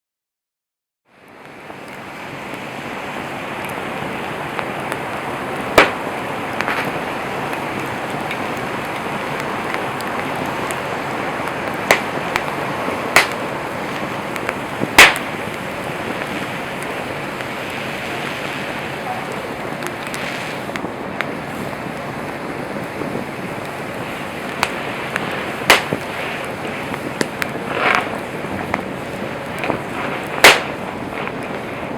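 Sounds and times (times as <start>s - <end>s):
campfire flames hissing: 1.1s - 31.9s
wood cracking pops: 4.4s - 31.9s.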